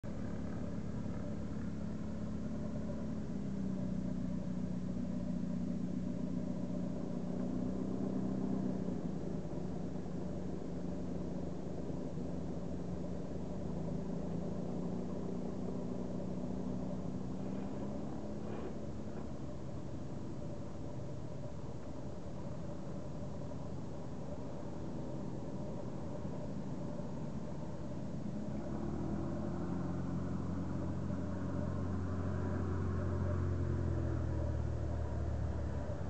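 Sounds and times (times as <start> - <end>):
airplane engine and propeller droning: 0.0 - 36.0.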